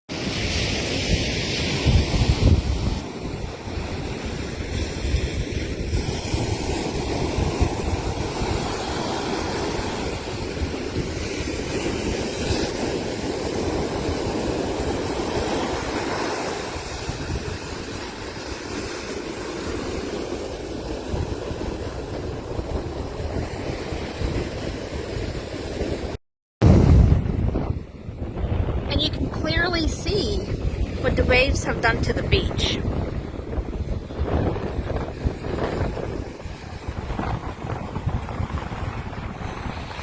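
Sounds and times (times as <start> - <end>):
surf washing: 0.1 - 40.0
wind buffeting microphone: 0.1 - 40.0.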